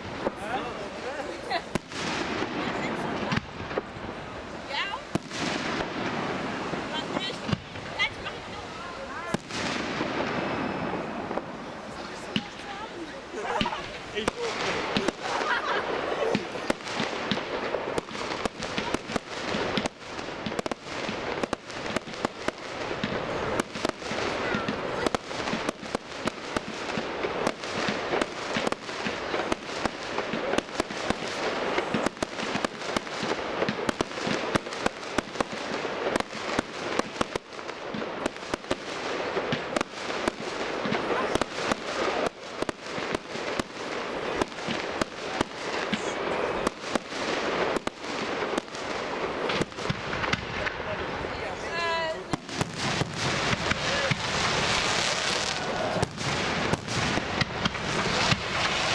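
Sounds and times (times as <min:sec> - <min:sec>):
fireworks bursting: 0:00.0 - 0:58.9.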